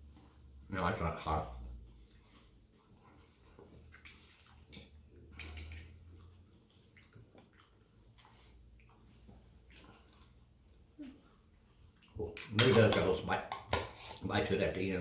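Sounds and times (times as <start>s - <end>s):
faint chewing: 0.0s - 14.3s.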